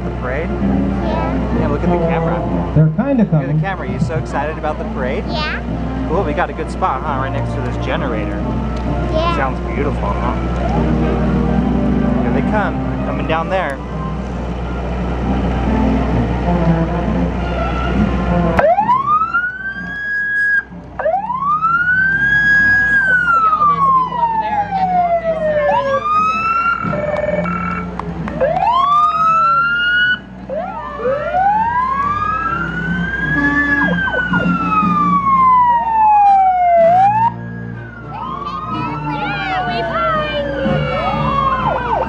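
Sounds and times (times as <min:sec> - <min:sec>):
emergency sirens wailing: 0:00.0 - 0:42.0.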